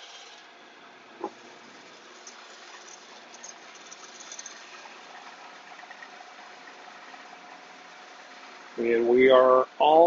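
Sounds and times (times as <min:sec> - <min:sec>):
motor running at slow speed: 0:00.0 - 0:09.4.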